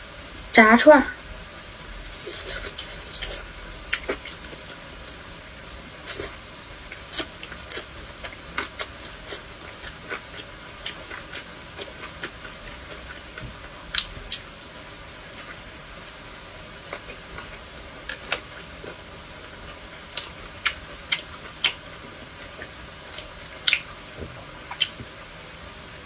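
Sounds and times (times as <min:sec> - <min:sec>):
person chewing food: 0:02.1 - 0:05.2, 0:06.0 - 0:14.5, 0:15.3 - 0:25.3.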